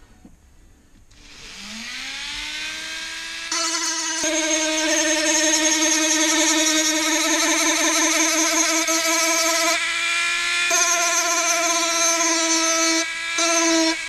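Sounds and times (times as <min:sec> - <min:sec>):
rotary tool whining: 0:01.1 - 0:14.0
sanding disc grinding: 0:01.2 - 0:14.0.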